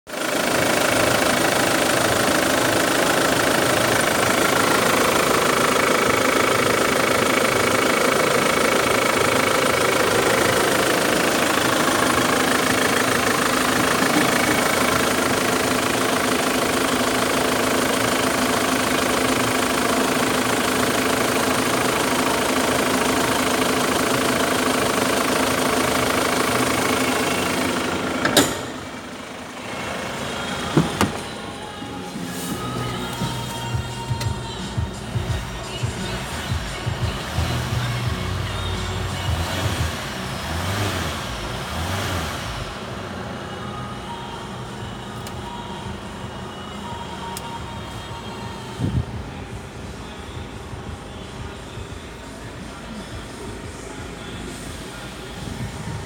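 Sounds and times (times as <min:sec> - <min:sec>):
diesel engine idling: 0:00.1 - 0:56.0.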